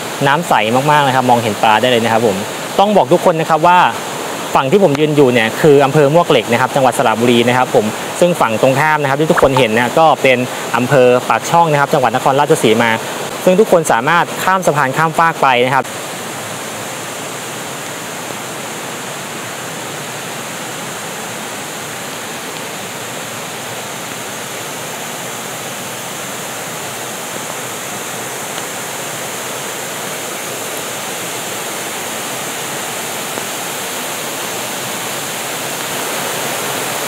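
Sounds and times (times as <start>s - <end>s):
waterfall rushing over rocks: 0.0s - 37.0s.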